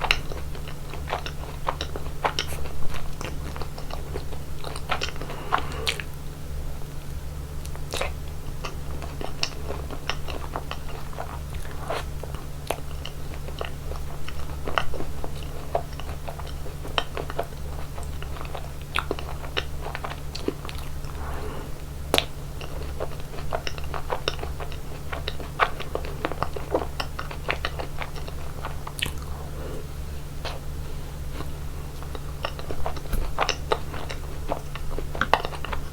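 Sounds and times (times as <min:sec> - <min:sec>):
steady low hum: 0:00.0 - 0:35.9
crunchy bites and chewing: 0:07.1 - 0:35.9.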